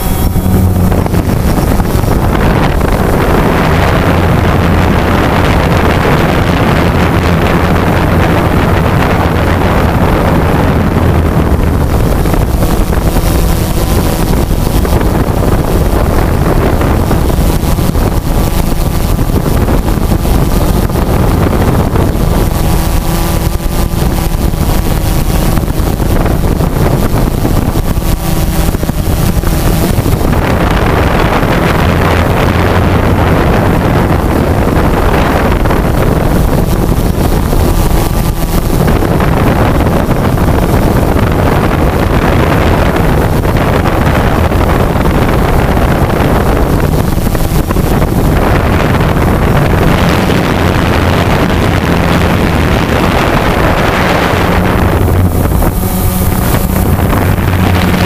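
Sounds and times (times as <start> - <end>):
drone motors and propellers: 0.0 - 58.0
wind buffeting microphone: 0.0 - 58.0.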